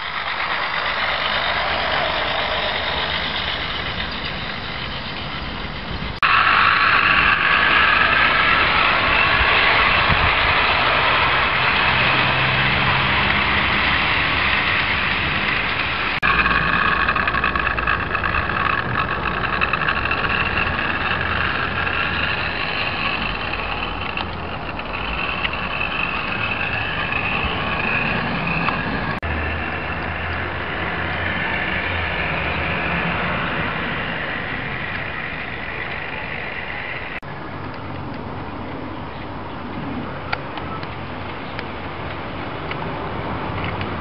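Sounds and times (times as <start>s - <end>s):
small electric motor whine: 0.0s - 37.3s
wheels rumbling on rail: 0.0s - 44.0s.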